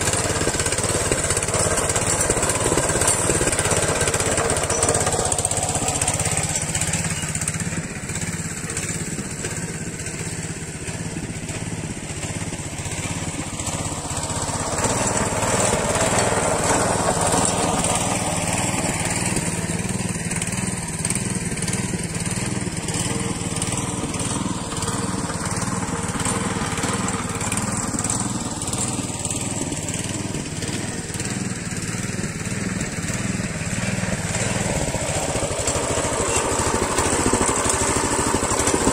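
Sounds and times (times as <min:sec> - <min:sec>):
tiller engine running: 0:00.0 - 0:38.9.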